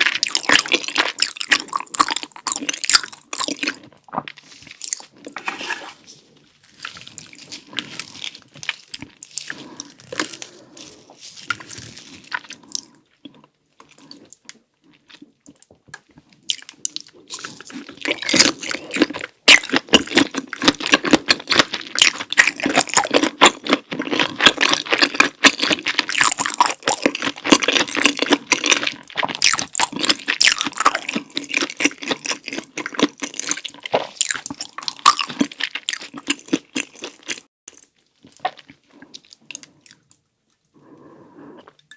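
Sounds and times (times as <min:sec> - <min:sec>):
chewing food with mouth clicks: 0:00.0 - 0:05.4, 0:06.8 - 0:40.8.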